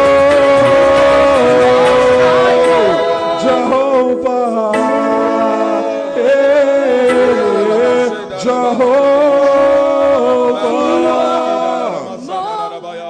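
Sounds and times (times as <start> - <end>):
person singing worship song: 0.0 - 13.0.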